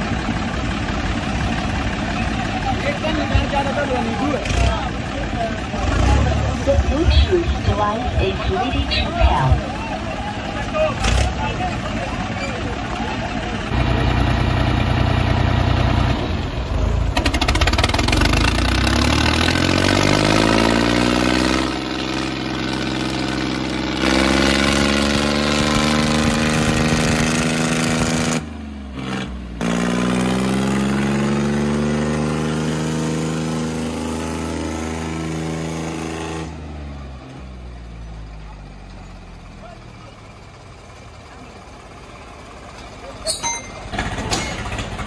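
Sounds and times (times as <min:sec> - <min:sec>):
tractor engines revving hard: 0:00.0 - 0:45.0.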